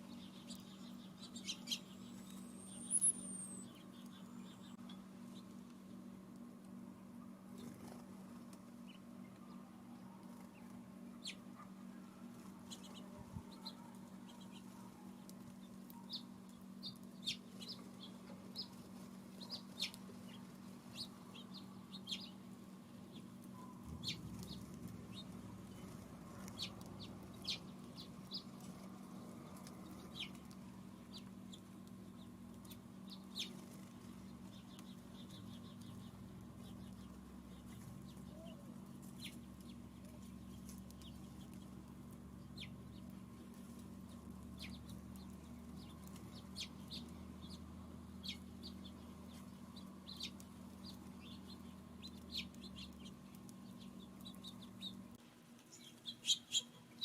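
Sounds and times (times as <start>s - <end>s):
songbirds chirping: 0.0s - 57.0s
steady low hum: 0.0s - 57.0s.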